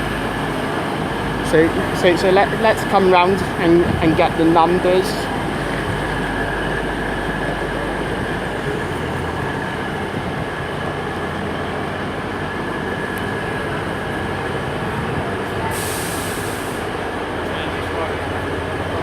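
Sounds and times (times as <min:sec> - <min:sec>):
train engines idling drone: 0:00.0 - 0:19.0.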